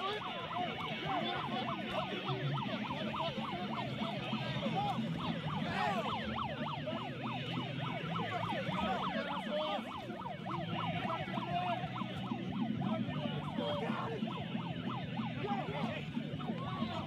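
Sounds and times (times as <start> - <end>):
siren yelping: 0.0 - 17.0.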